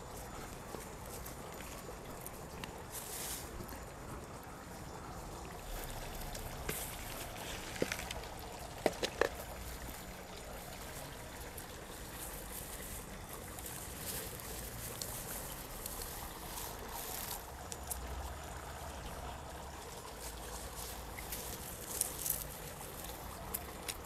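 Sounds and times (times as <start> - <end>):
dry soil rustling and crumbling: 0.0 - 4.7, 5.3 - 24.0.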